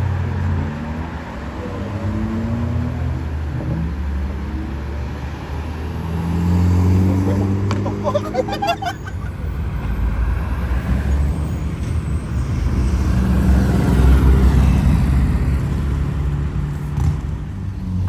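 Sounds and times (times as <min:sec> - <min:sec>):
road rumble: 0:00.0 - 0:18.0.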